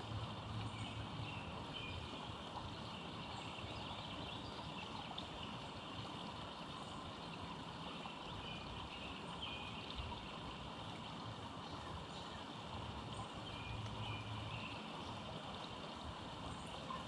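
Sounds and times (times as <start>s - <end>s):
hiss-like outdoor background: 0.0s - 17.0s.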